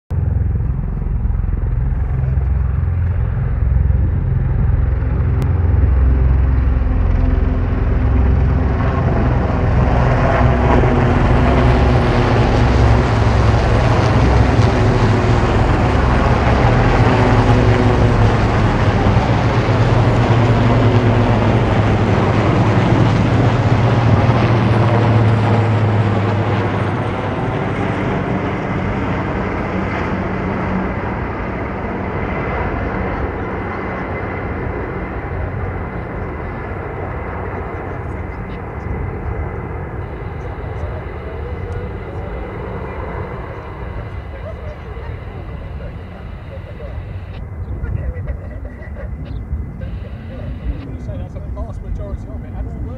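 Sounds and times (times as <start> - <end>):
helicopter rotors beating: 0.1 - 52.9
helicopter turbine noise: 0.1 - 52.9.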